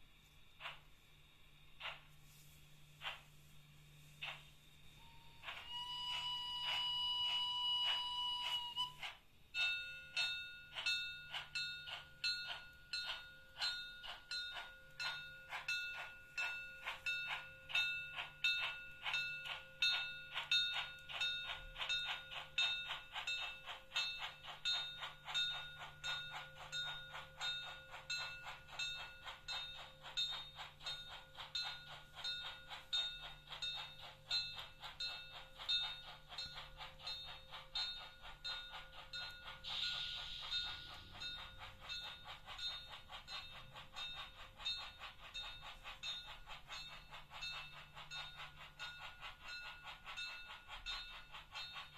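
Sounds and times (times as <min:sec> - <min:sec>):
model steam locomotive chuffing: 0:00.0 - 0:51.9.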